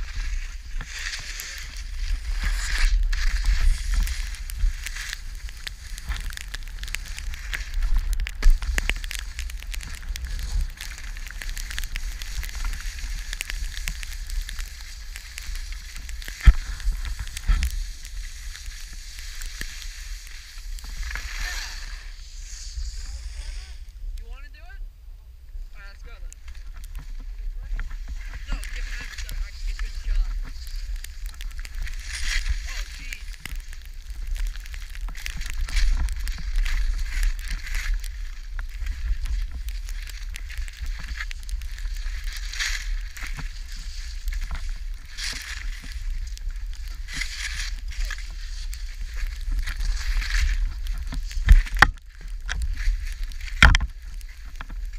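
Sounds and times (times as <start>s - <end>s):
skis scraping over snow: 0.0s - 24.4s, 25.7s - 54.9s
wind rumble on microphone: 0.0s - 54.9s.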